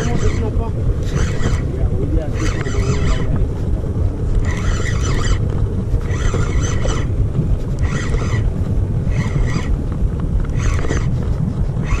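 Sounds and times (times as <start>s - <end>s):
fishing reel whirring: 0.0s - 12.0s
steady low rumble: 0.0s - 12.0s.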